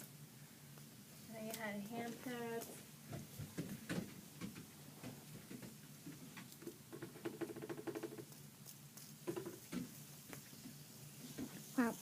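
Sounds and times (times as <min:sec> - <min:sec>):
faint rustling and scratching: 0:00.8 - 0:12.0.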